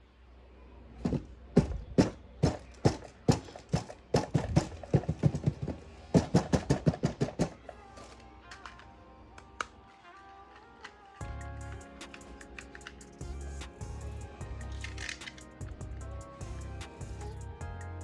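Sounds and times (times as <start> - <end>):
faint music: 0.0 - 18.0.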